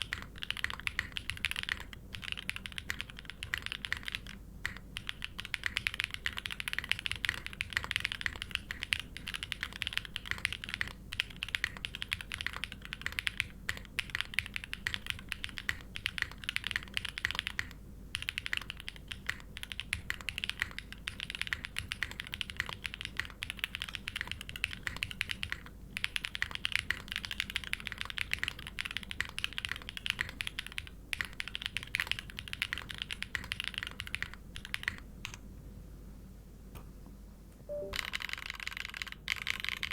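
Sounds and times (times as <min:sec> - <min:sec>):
fast typing on mechanical keyboard: 0:00.0 - 0:35.4, 0:37.7 - 0:39.9.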